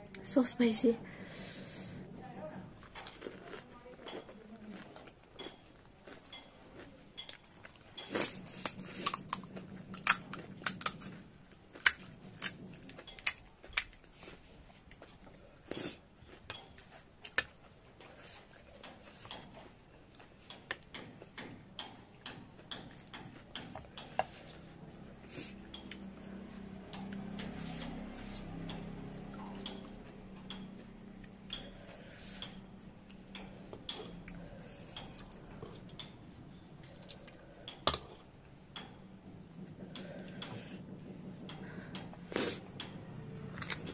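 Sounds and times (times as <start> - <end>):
chewing: 2.8 - 39.0, 41.5 - 43.9.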